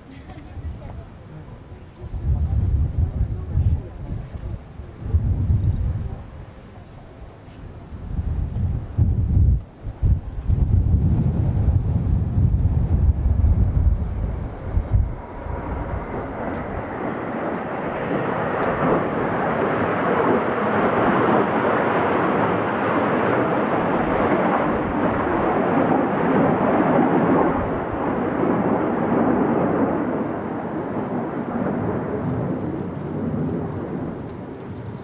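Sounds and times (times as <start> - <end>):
jet rumble: 0.0 - 35.0.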